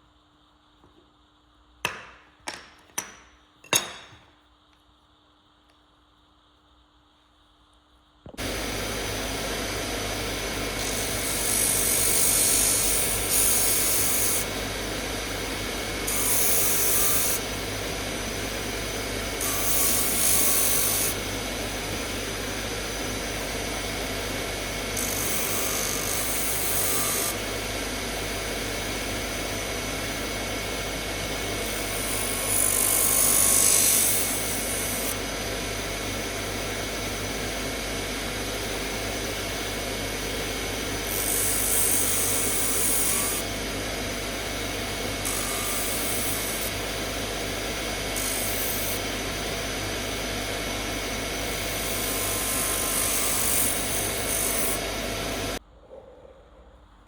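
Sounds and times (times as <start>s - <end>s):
electric power tool running: 8.3s - 55.6s.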